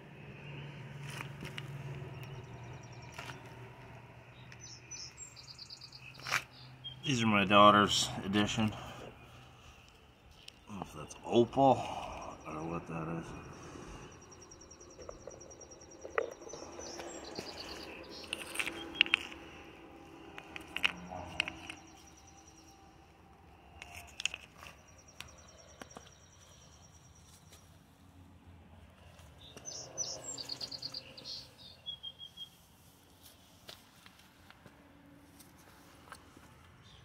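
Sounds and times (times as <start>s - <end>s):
songbirds singing: 0.0s - 33.8s, 36.2s - 37.0s.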